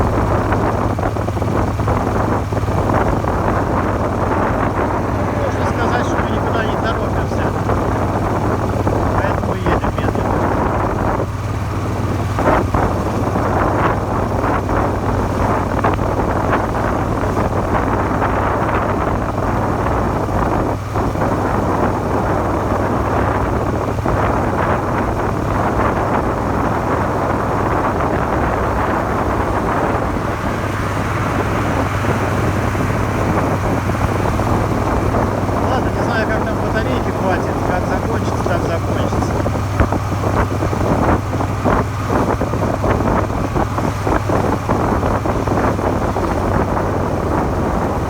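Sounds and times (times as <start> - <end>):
motorcycle engine running: 0.0 - 48.0
wind rush on microphone: 0.0 - 48.0.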